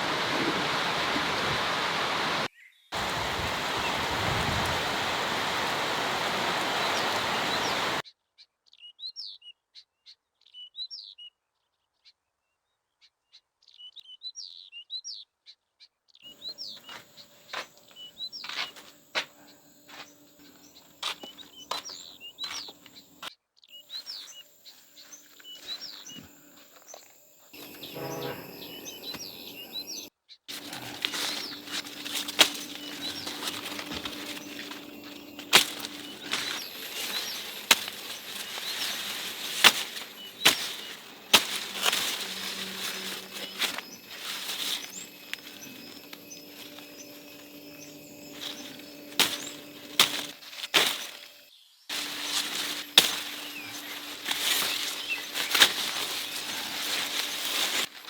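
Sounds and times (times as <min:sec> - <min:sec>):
small birds chirping: 0:00.6 - 0:08.1, 0:16.1 - 0:58.0.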